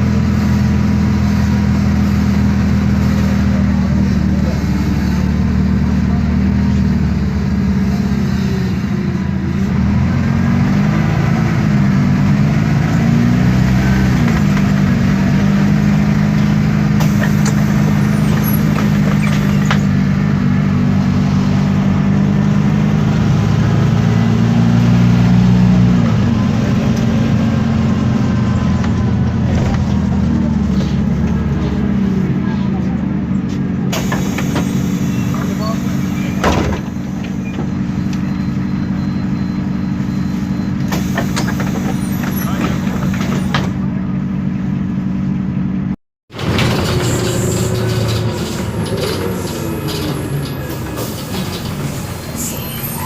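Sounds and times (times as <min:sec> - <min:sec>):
bus diesel engine running: 0:00.0 - 0:53.0.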